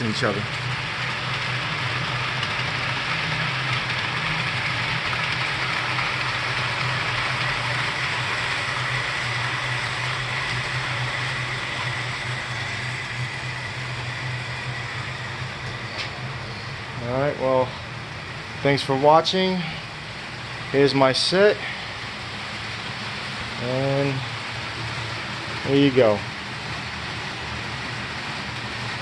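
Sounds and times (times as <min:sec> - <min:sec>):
wheels rolling on rails: 0:00.0 - 0:29.0.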